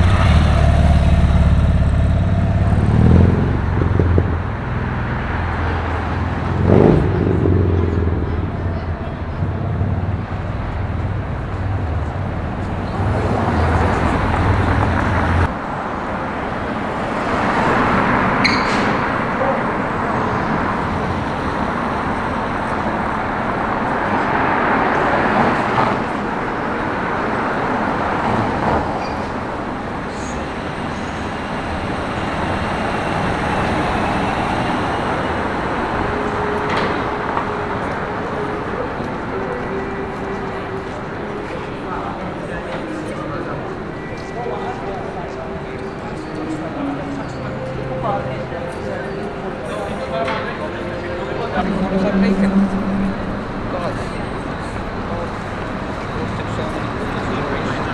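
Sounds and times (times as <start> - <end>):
deep engine rumble: 0.0 - 18.4, 19.0 - 57.9
vehicles passing: 0.0 - 57.9.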